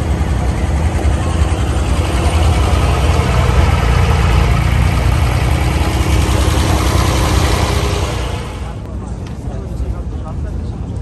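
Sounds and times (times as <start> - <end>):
boat diesel engine running: 0.0 - 8.9.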